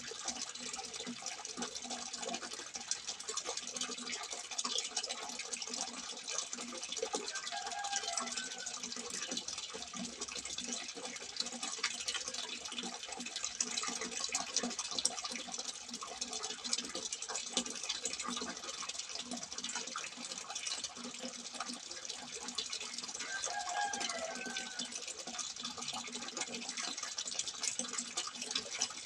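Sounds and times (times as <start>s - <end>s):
water trickling from spout: 0.0s - 29.0s.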